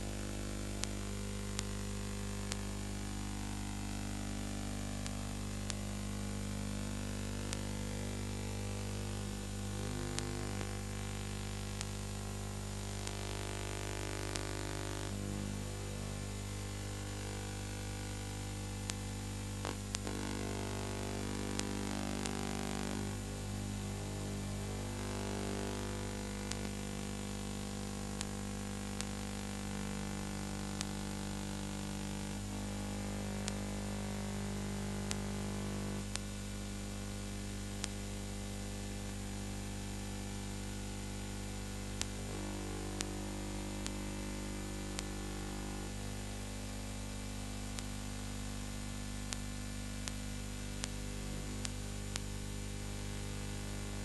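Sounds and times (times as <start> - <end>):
electrical hum and hiss: 0.0 - 54.0.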